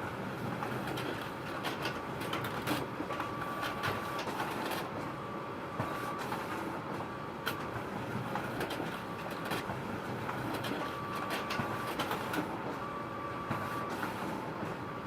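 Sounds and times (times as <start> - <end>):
photocopier whirring: 0.0 - 15.0.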